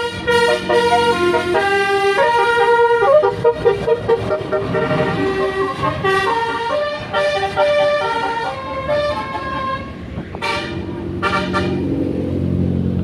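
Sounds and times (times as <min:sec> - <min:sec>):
horn blasts: 0:00.0 - 0:11.9
musical air horn tune: 0:00.0 - 0:11.9
bus engine drone: 0:00.0 - 0:13.0.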